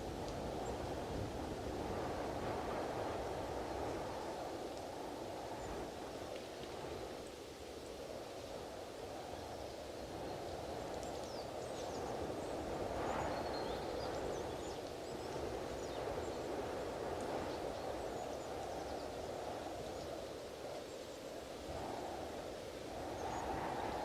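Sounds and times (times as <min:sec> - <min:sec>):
strong wind blowing: 0:00.0 - 0:24.0.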